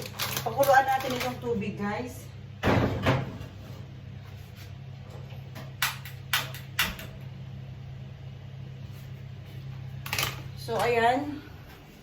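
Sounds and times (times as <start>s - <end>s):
steady low hum: 1.6s - 12.0s.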